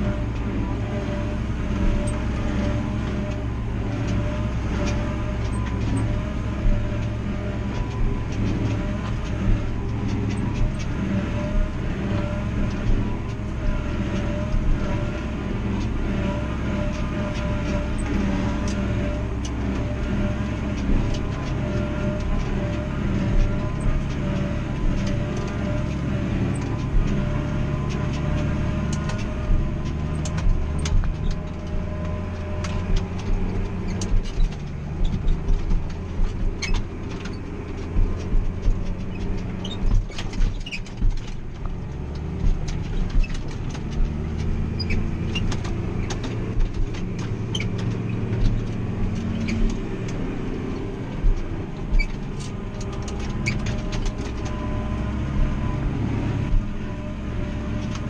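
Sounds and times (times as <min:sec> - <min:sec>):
knocks and rattles: 0:00.0 - 0:58.0
tractor engine from inside cab: 0:00.0 - 0:58.0.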